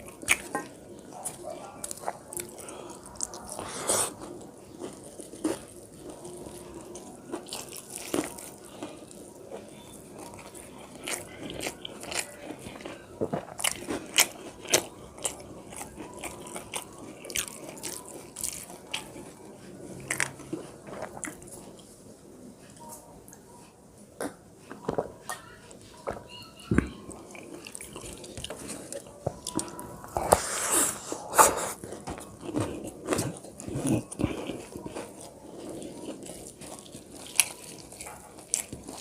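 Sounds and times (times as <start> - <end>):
person chewing with crisp crunches: 0.0 - 22.0, 26.8 - 39.0.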